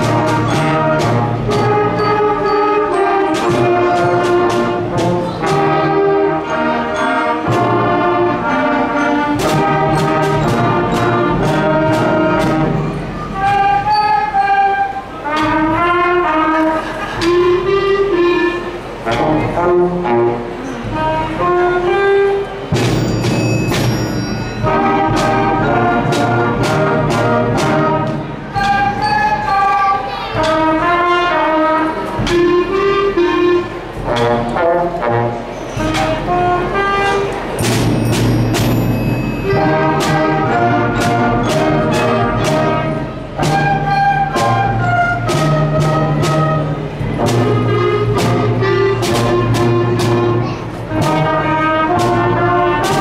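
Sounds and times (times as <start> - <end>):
concert band playing: 0.0 - 53.0.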